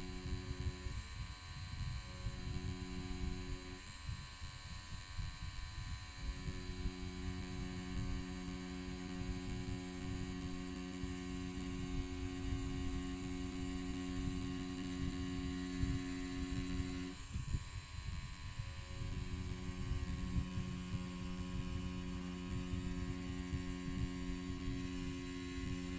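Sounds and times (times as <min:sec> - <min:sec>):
tattoo machine humming: 0:00.0 - 0:25.9.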